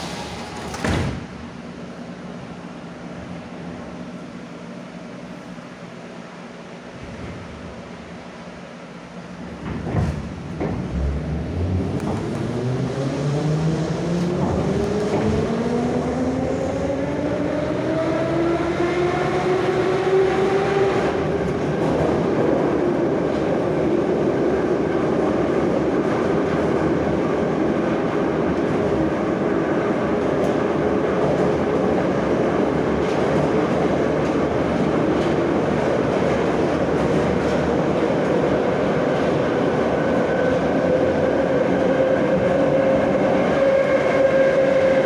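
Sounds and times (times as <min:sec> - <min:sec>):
train wheels on track: 0:00.0 - 0:45.0.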